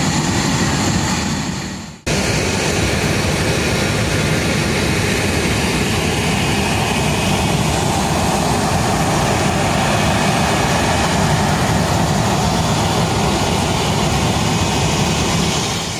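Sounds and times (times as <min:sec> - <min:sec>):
jet aircraft roar: 0:00.0 - 0:15.9.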